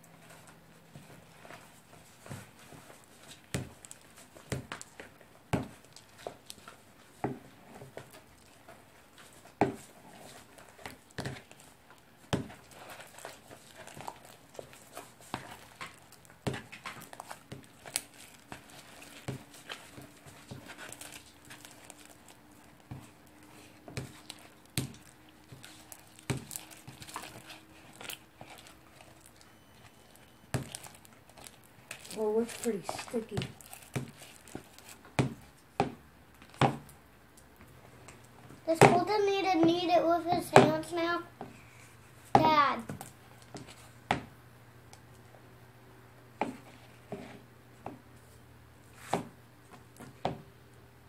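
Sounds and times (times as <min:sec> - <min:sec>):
slime squelching: 0:00.0 - 0:44.0.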